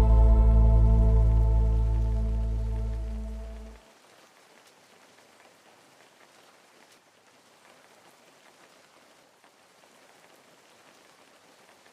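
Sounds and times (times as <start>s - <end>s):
faint steady rain: 0.0s - 11.9s.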